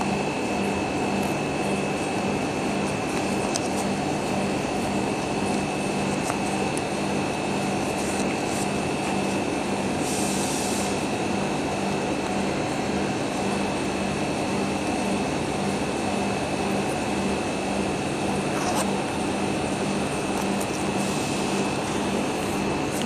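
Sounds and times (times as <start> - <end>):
machine drone with high whine: 0.0 - 23.0.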